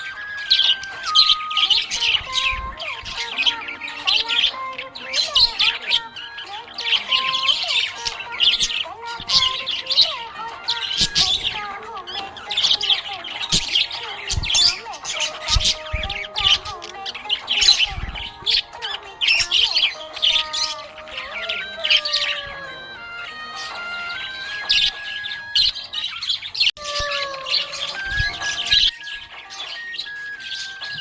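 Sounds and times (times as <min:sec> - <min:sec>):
budgerigar chirping and warbling: 0:00.0 - 0:31.0.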